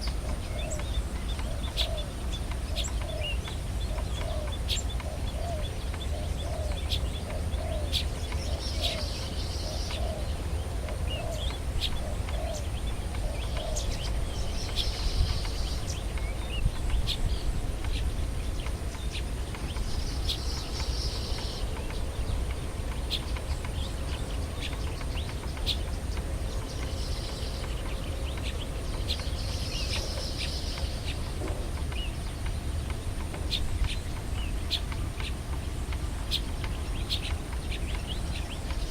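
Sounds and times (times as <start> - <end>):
birds chirping: 0.0 - 38.9
low background rumble: 0.0 - 38.9
lower repeated bird call notes: 0.0 - 38.9.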